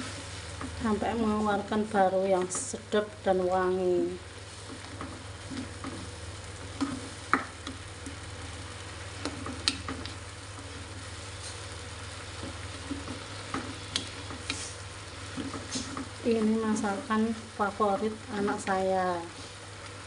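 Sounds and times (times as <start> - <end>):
spice paste sizzling in pan: 0.0 - 20.0.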